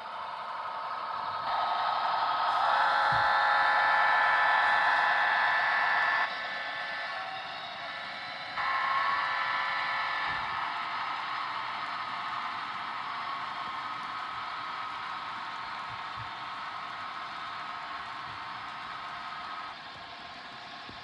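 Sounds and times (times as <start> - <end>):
model train motor whine: 0.0 - 21.0.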